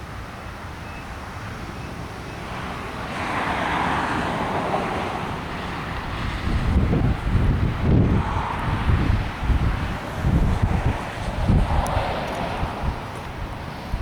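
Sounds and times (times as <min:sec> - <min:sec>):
wind buffeting microphone: 0:01.2 - 0:14.0.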